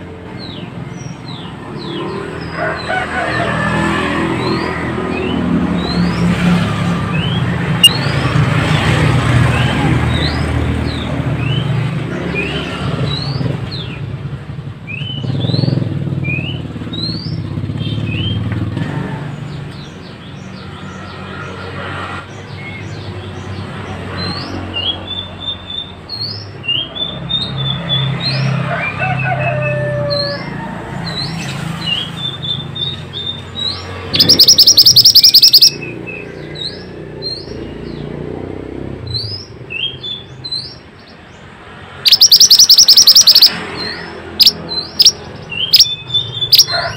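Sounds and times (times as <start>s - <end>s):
birds chirping: 0.0s - 28.5s, 30.1s - 46.9s.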